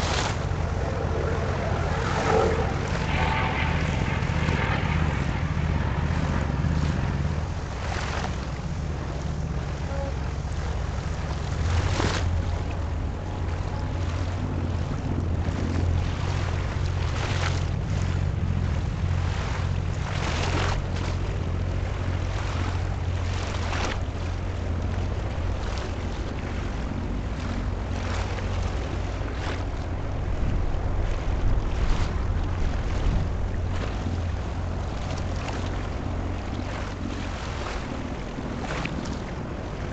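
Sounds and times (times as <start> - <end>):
low rumble: 0.0 - 39.9
wind gusting on microphone: 0.0 - 39.9.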